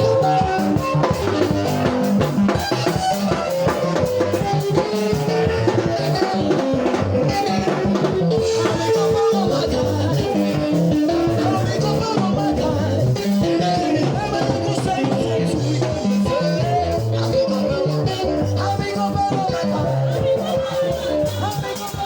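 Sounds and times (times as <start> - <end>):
drum kit beat: 0.0 - 22.0
held instrumental notes: 0.0 - 22.0.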